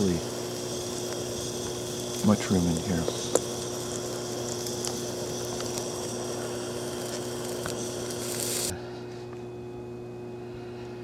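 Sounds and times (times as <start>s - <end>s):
rustling hiss with faint ticks: 0.0s - 9.4s
low electrical hum: 0.0s - 11.0s.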